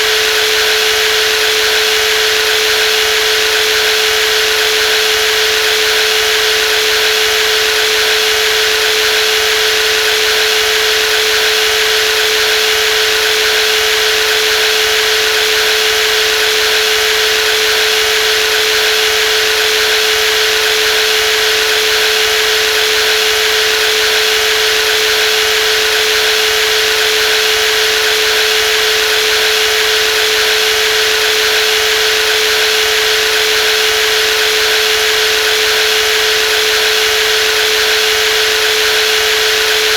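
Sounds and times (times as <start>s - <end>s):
jigsaw motor whine: 0.0s - 39.9s.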